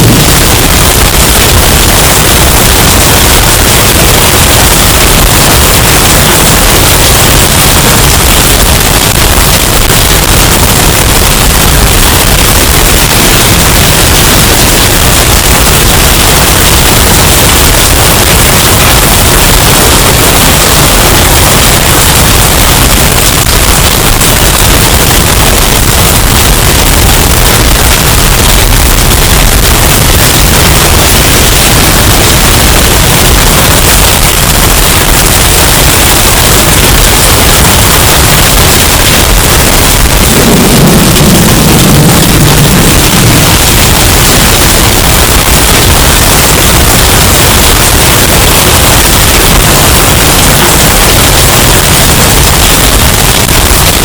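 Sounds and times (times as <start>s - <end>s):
overdriven hurricane wind roar: 0.0s - 54.0s.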